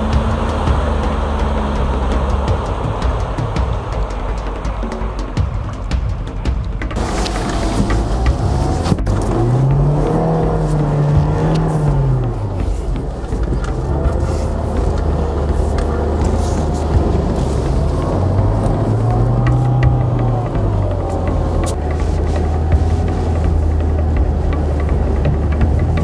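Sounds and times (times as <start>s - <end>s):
car engine pulling off-road: 0.0s - 26.0s.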